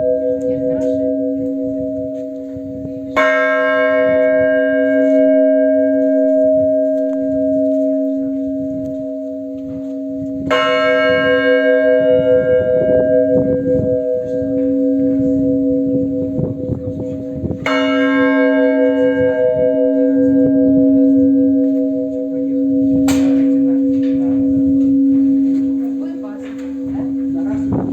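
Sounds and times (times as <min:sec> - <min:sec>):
large church bell ringing: 0:00.0 - 0:27.9.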